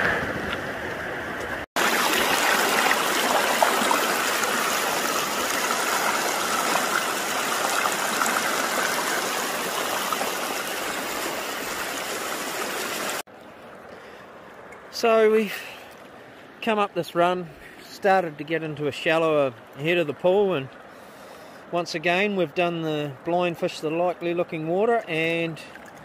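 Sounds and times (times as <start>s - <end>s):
river flowing water: 0.6s - 26.0s.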